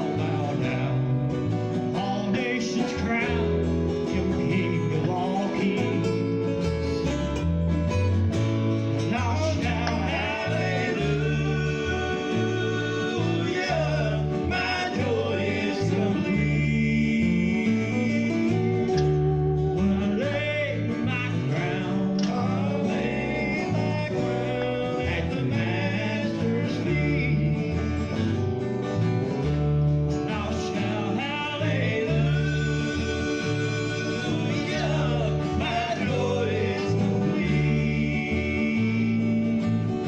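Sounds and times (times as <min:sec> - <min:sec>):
country gospel music with guitar: 0:00.0 - 0:40.0.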